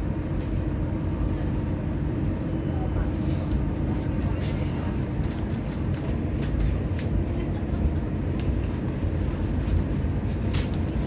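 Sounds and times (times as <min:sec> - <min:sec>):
tram rumbling: 0:00.0 - 0:11.0.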